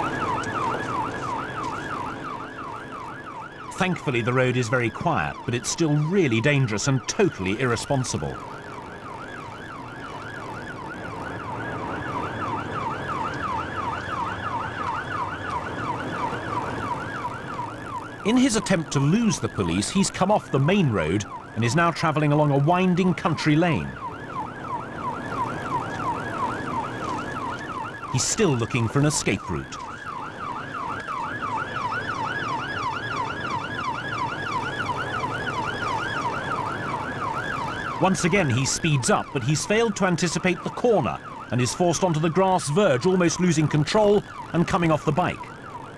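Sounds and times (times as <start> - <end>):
engine and road rumble: 0.0 - 45.9
police siren yelping: 0.0 - 45.9.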